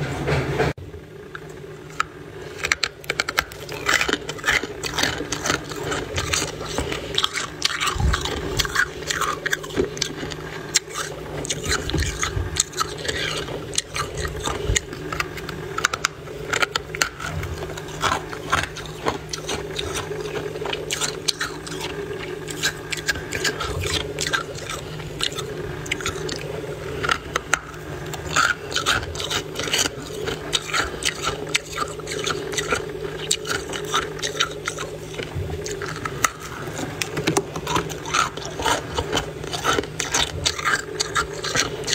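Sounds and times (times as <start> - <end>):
steady low hum: 0.0 - 41.9
frost crunching: 1.3 - 41.9.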